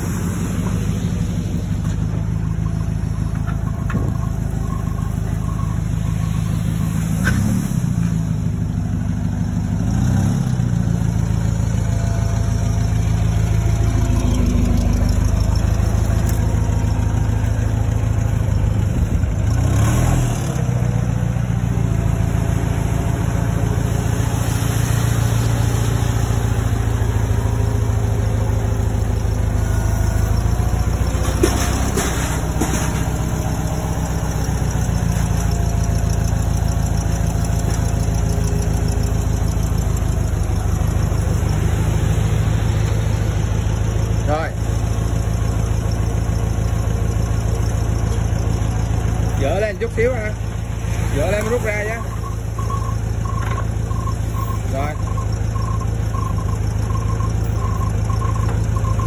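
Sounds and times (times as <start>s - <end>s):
forklift engine revving: 0.0s - 59.0s
forklift engine running: 0.0s - 59.0s.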